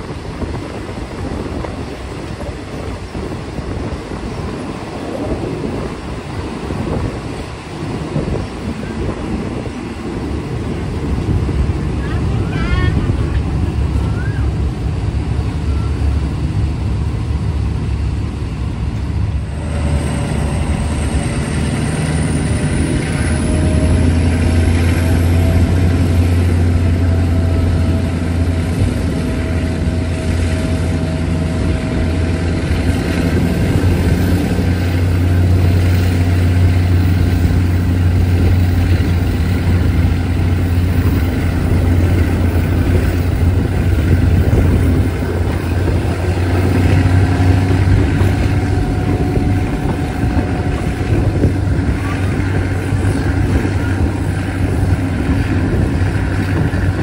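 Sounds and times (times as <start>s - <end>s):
train rumbling on rails: 0.0s - 57.0s
wind rush: 0.0s - 57.0s.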